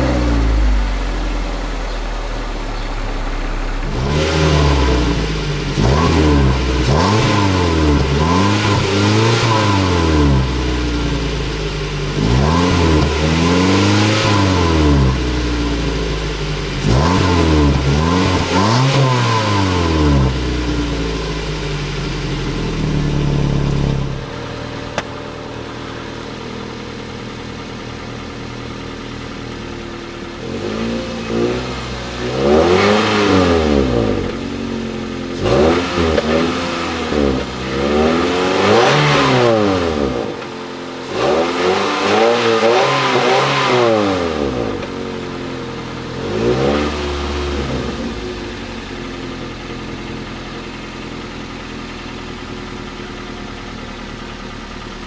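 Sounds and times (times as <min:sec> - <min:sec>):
car exhaust idling: 0:00.0 - 0:55.0
car exhaust revving: 0:00.0 - 0:55.0.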